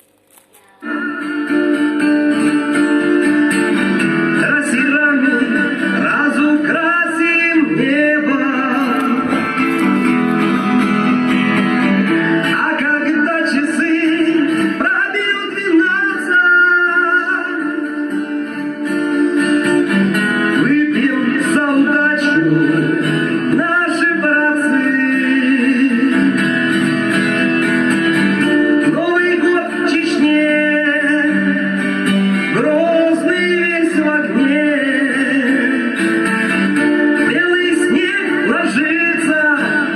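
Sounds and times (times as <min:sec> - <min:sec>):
song with singing and plucked guitar: 0:00.0 - 0:39.9.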